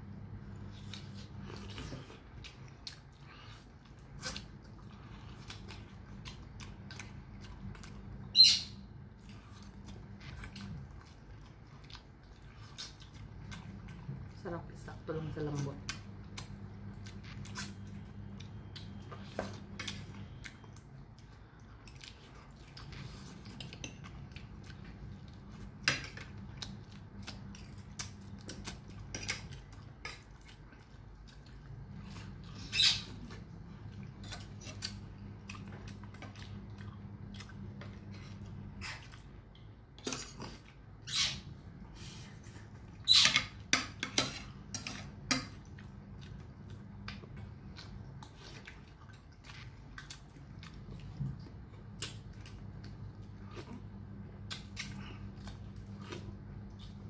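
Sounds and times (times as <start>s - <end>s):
low steady hum: 0.0s - 57.0s
chewing and lip smacks: 0.6s - 8.3s, 9.1s - 14.4s, 15.8s - 41.0s, 45.4s - 57.0s.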